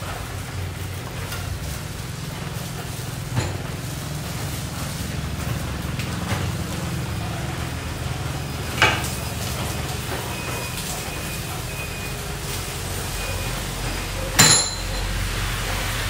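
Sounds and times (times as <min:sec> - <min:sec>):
utensils and dishes clinking: 0:01.3 - 0:07.0, 0:08.0 - 0:15.6.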